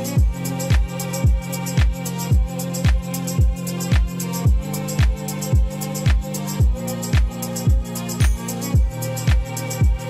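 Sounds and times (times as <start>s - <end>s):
deep kick drum: 0.2s - 10.0s.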